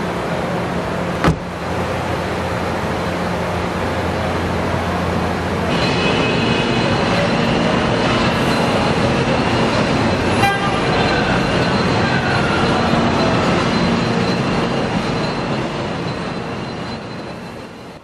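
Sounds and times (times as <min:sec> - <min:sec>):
machinery rumble and hum: 0:00.0 - 0:18.0
high steady whining tones: 0:00.1 - 0:18.0.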